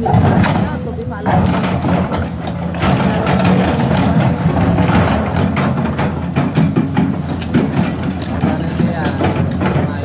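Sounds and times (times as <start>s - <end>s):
excavator diesel engine running: 0.0s - 10.0s
knocks and clatter: 0.0s - 10.0s.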